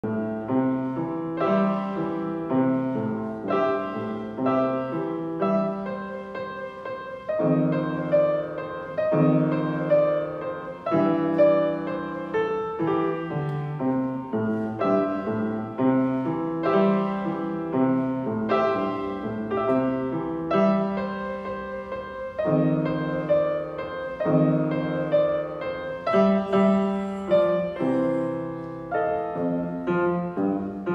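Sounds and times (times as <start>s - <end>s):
boogie piano duet: 0.0s - 30.9s.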